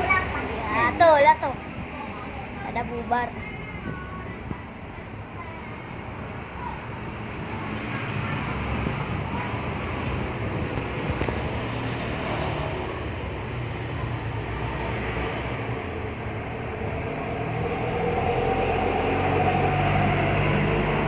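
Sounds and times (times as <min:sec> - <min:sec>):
road and wind noise: 0:00.0 - 0:21.0
vehicle rumble: 0:00.0 - 0:21.0.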